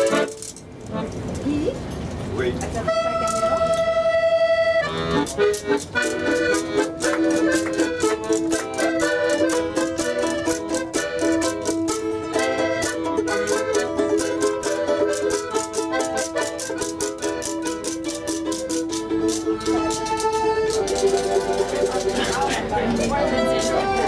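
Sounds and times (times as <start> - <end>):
accordion playing folk tune: 0.0 - 1.4, 2.8 - 24.0
plucked small string instrument: 0.0 - 2.0, 2.9 - 24.0.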